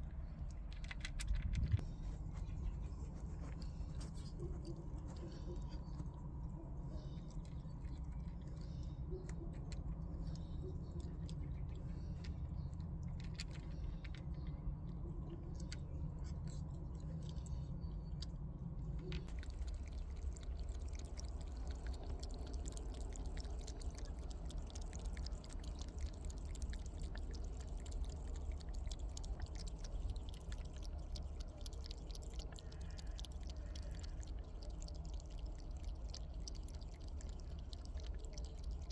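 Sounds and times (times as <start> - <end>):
cat chewing food: 0.0 - 38.9
low background rumble: 0.0 - 38.9.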